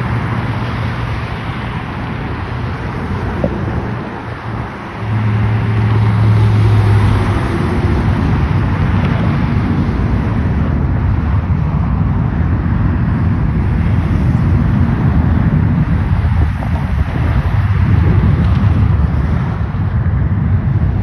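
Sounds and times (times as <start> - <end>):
rumble of traffic: 0.0 - 21.0.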